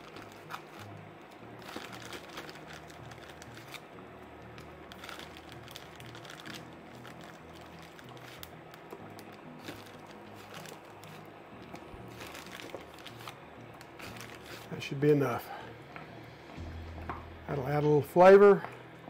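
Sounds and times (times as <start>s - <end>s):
low hum: 0.0s - 18.1s.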